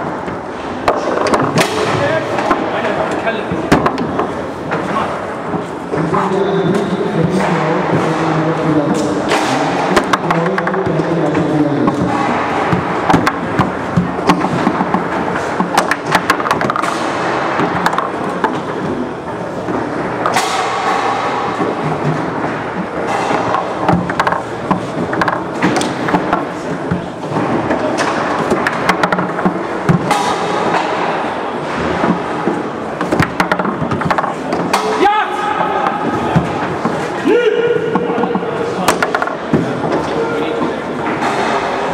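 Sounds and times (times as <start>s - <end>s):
foosball ball striking: 0.0s - 2.7s, 6.7s - 37.2s, 37.8s - 40.1s.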